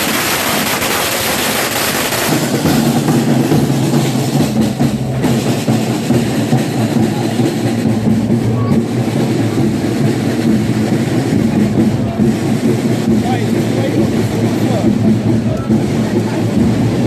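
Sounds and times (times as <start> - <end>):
crowd noise: 0.0 - 17.0.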